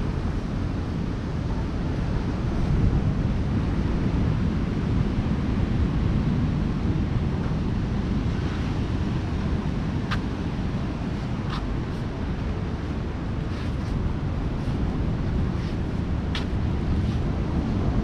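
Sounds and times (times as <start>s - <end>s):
ocean surf washing on beach: 0.0s - 18.0s
wind buffeting microphone: 0.0s - 18.0s.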